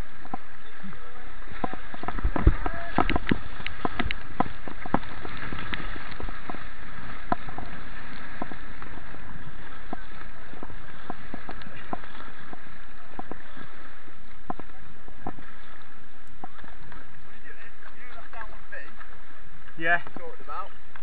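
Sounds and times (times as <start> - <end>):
rushing white water: 0.0 - 21.0
water splashes: 0.0 - 21.0.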